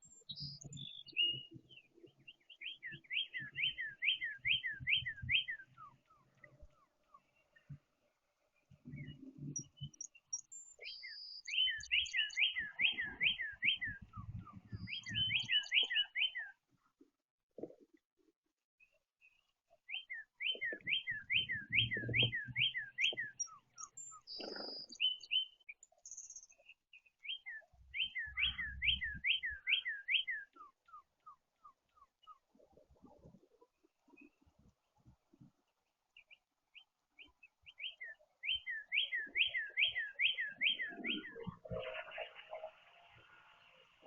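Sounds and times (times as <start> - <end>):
songbird singing: 0.0 - 16.8, 18.8 - 44.0.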